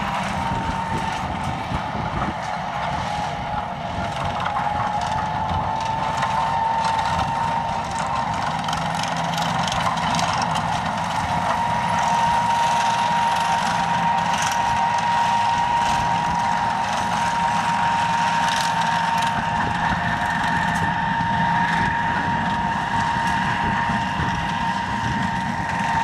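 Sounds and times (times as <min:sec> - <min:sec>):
diesel locomotive engine whining: 0:00.0 - 0:26.0.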